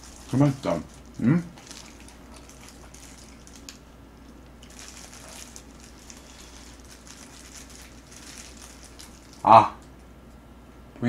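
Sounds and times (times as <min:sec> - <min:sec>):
plastic gloves crinkling: 0:00.0 - 0:09.5
wet handling noises: 0:00.0 - 0:10.0
small crackles: 0:00.0 - 0:10.4.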